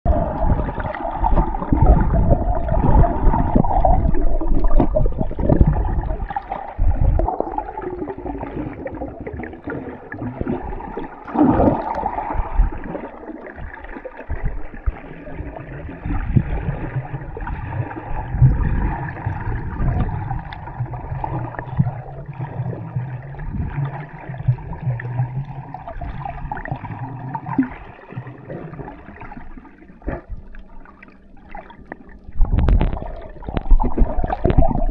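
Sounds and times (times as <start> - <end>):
muffled underwater sloshing: 0.0 - 34.9.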